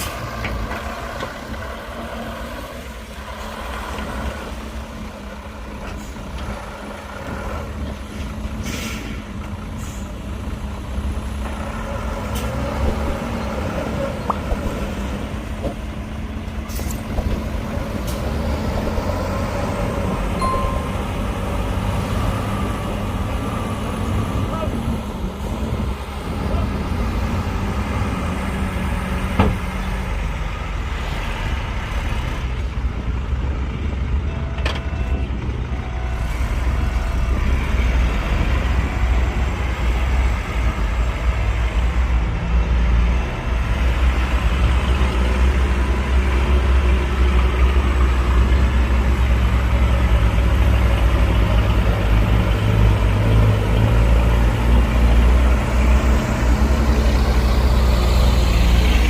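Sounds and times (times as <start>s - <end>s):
heavy diesel machinery rumbling: 0.0s - 59.0s.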